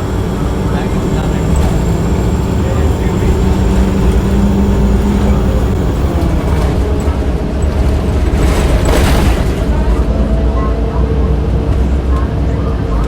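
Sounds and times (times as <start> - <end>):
bus drivetrain and road rumble: 0.0 - 13.0.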